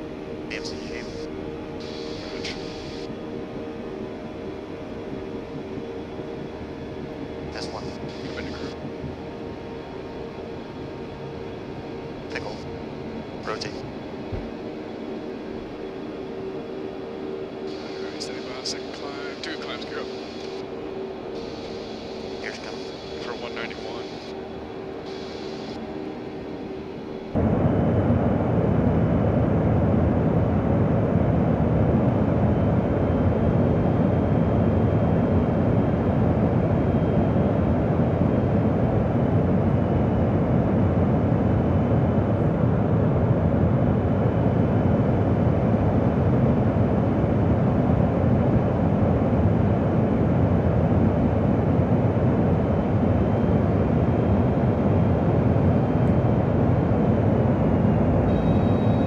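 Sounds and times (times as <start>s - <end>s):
aircraft cabin engine rush: 0.0s - 59.0s
faint high whine: 0.0s - 59.0s.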